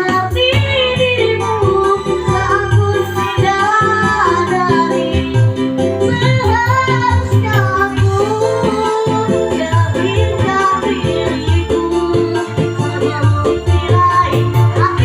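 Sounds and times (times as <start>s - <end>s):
child singing: 0.0s - 5.3s, 6.2s - 15.0s
band with steady bass beat: 0.0s - 15.0s.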